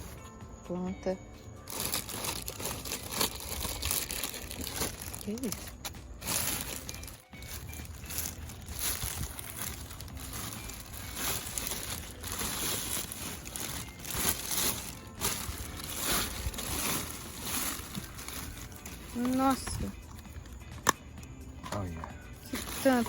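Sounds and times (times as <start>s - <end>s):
plastic bags rustling: 1.6s - 20.2s, 22.4s - 23.0s.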